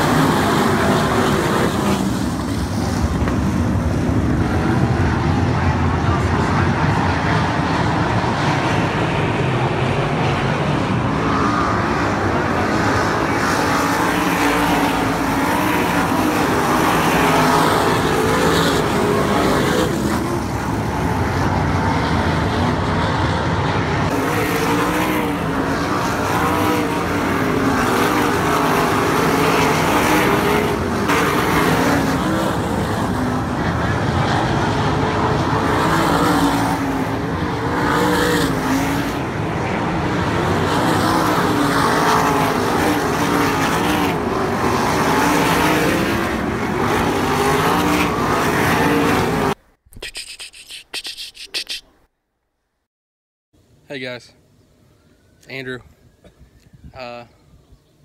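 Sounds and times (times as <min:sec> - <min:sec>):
racing car engines: 0:00.0 - 0:49.6.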